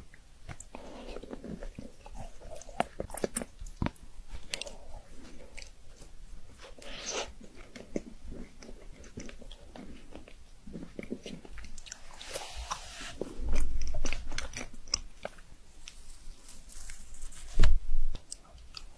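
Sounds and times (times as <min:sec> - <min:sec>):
wet chewing: 0:00.5 - 0:18.9.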